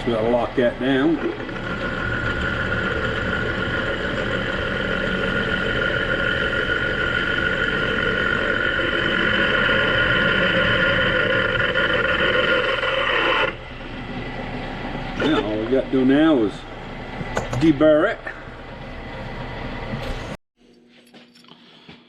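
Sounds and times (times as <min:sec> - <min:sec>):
metal lathe whining: 0:00.0 - 0:20.0.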